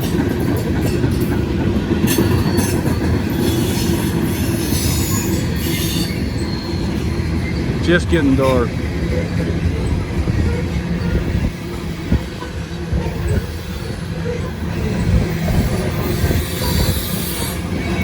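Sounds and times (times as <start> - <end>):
wheels clattering on rails: 0.0 - 18.0.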